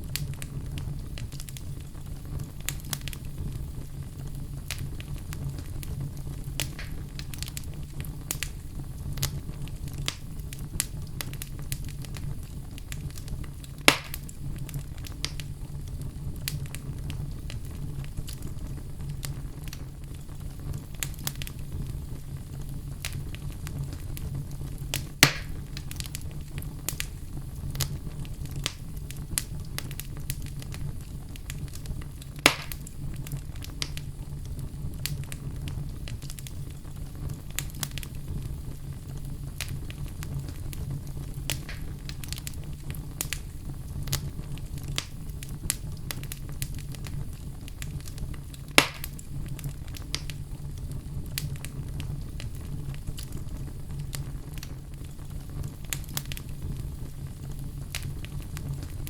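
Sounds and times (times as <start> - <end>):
sharp fire pops: 0.0 - 59.0
wood fire crackling: 0.0 - 59.0.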